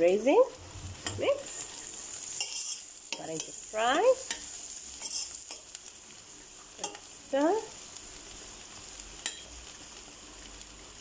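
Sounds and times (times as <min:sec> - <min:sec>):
onion sizzling in butter: 0:00.0 - 0:11.0.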